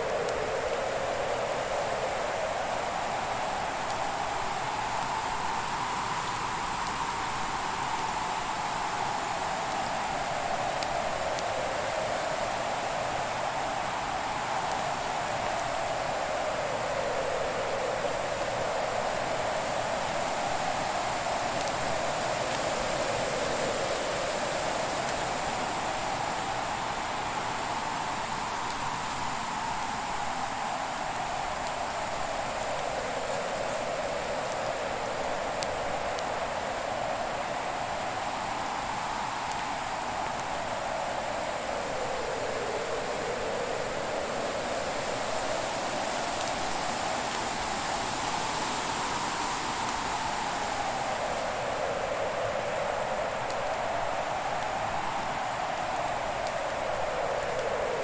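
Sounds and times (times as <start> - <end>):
fire crackles: 0.1 - 58.0.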